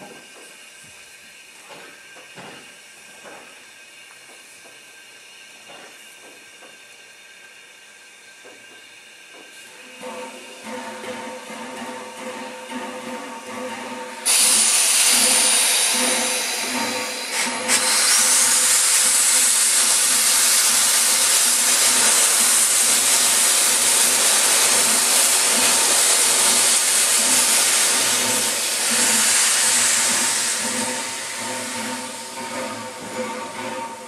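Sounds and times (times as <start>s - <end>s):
steam locomotive venting steam: 0.0s - 34.0s.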